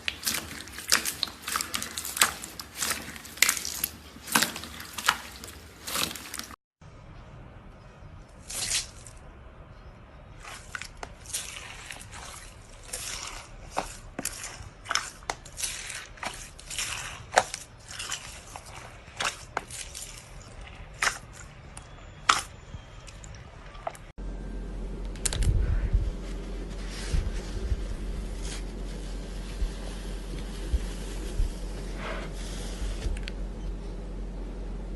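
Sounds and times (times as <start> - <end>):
low steady hum: 3.0 - 34.9.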